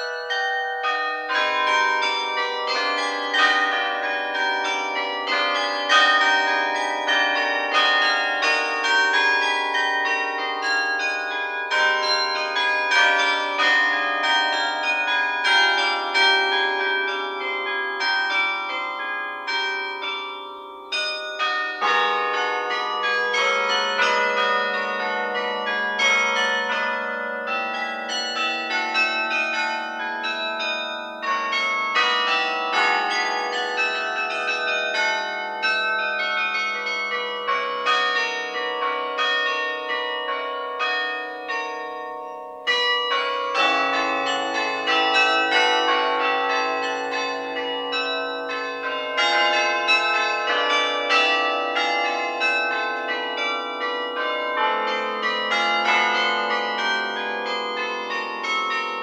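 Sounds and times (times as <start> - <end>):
carillon bells ringing: 0.0 - 59.0.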